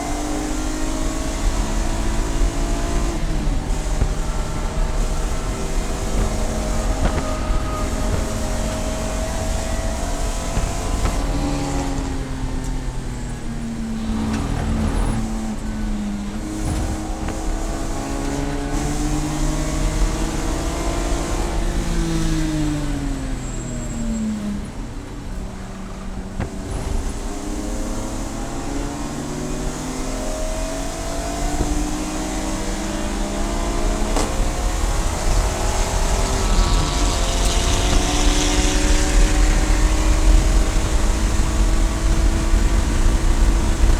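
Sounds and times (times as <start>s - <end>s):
race car engine revving: 0.0s - 43.9s
wind and road noise: 0.0s - 43.9s.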